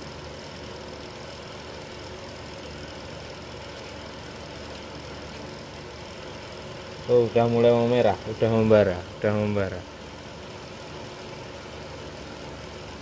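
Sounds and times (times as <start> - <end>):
induction heater hum and hiss: 0.0 - 13.0.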